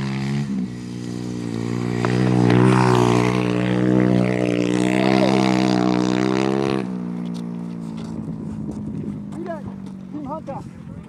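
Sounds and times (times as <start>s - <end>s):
small motorbike engine revving: 0.0s - 10.4s.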